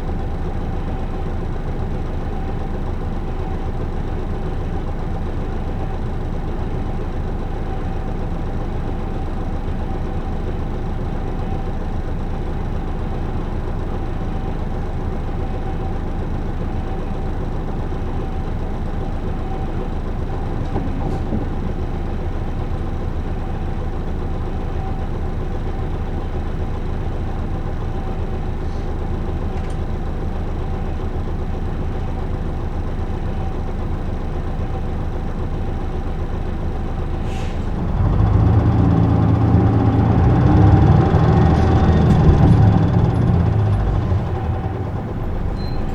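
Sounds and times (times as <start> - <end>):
diesel bus engine idling: 0.0 - 45.9.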